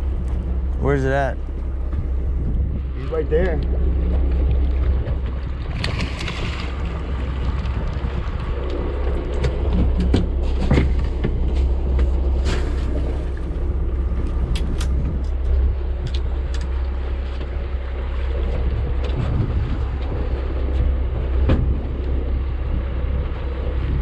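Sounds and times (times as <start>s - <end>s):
boat engine rumble: 0.0s - 24.0s.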